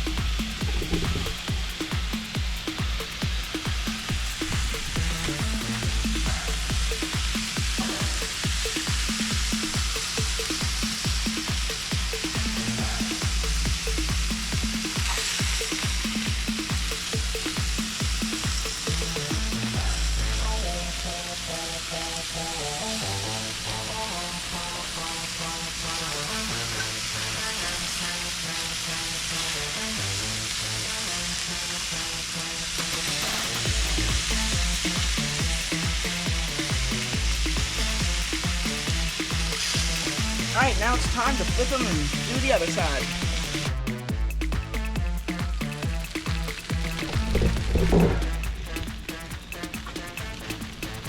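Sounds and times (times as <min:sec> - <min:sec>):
music with deep bass beat: 0:00.0 - 0:28.1, 0:32.8 - 0:51.0
chicken sizzling on a grill: 0:00.2 - 0:43.7.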